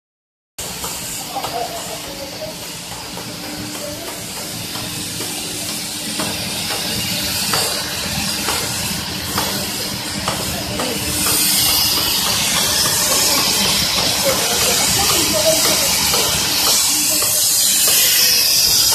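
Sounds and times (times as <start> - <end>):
machinery hiss and hum: 0.6 - 18.9.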